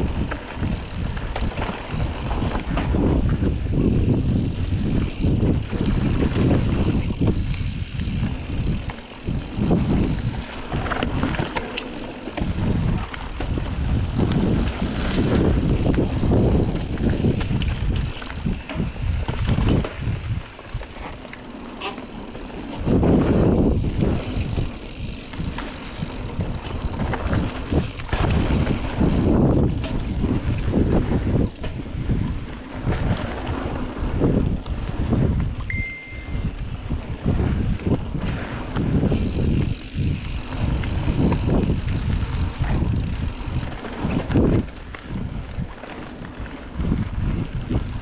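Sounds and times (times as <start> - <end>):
bike tyre and frame noise: 0.0 - 48.0
wind buffeting microphone: 0.0 - 48.0.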